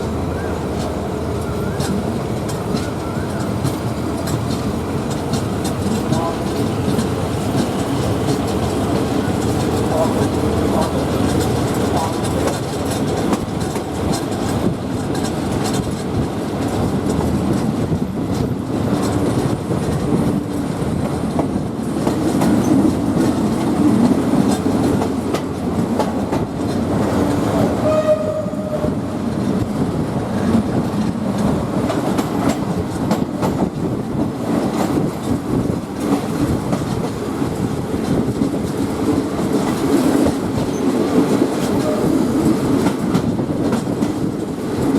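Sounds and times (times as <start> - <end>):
train rumble: 0.0 - 44.9
train wheels clickety-clack: 0.0 - 44.9.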